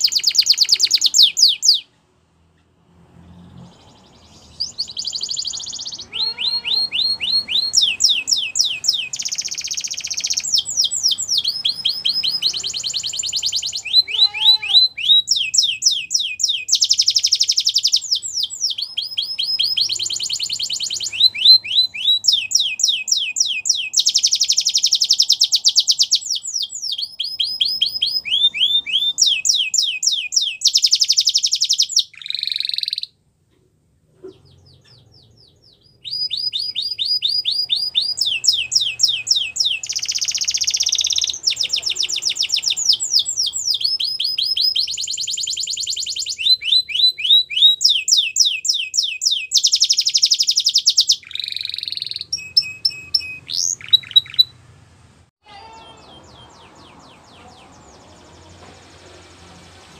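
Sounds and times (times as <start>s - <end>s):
canary singing trills: 0.0s - 2.0s, 3.4s - 33.2s, 34.2s - 54.7s, 55.5s - 59.9s.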